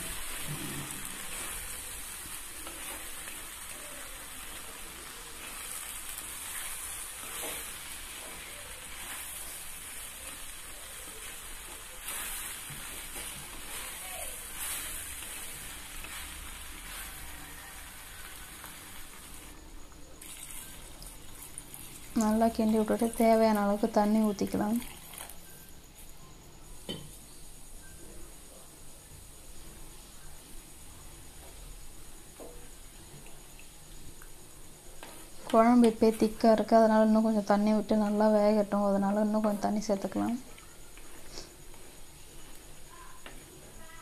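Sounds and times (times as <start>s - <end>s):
vegetables sizzling in oil: 0.0s - 28.5s, 29.1s - 44.0s.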